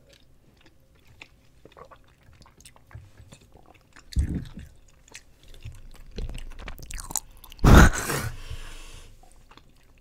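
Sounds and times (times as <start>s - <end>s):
chewing gummy candy: 0.0s - 7.7s, 9.2s - 10.0s.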